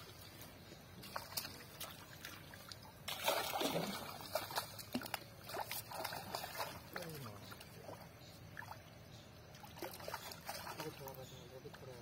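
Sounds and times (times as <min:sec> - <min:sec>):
drips and small splashes: 0:00.0 - 0:12.0
pond water sloshing and trickling: 0:00.0 - 0:12.0.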